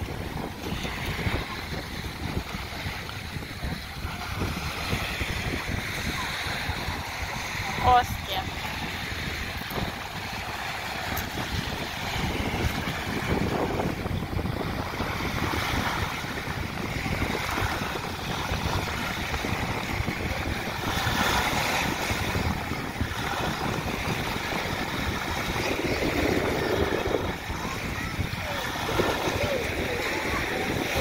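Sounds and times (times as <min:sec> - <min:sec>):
sea waves breaking on beach: 0:00.0 - 0:31.0
wind rumbling on microphone: 0:00.0 - 0:31.0.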